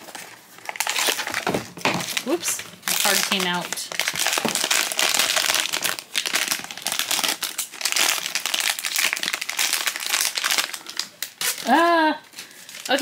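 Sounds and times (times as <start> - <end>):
foil packet crinkling: 0.0 - 13.0.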